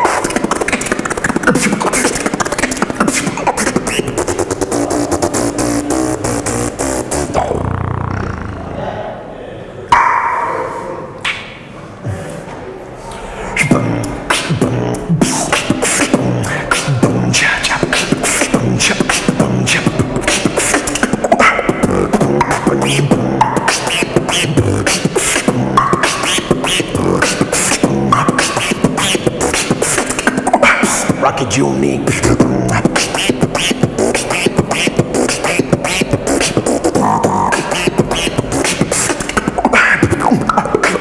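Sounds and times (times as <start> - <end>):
person beatboxing: 0.0 - 9.0, 10.6 - 41.0.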